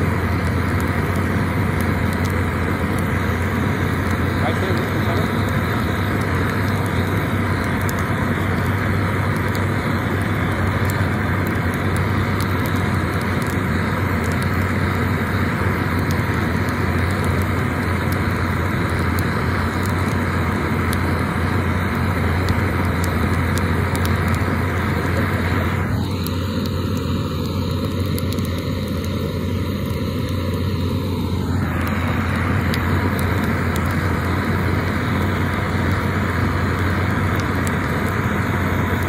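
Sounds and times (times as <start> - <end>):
gas torch flame rushing: 0.0 - 39.0
logs crackling: 0.0 - 39.0
steady background noise: 0.0 - 39.0.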